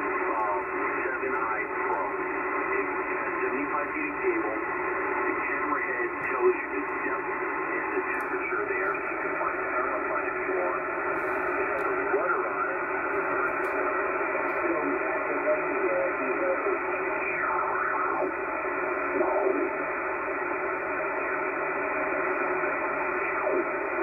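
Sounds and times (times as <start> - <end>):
radio static: 0.0 - 24.0.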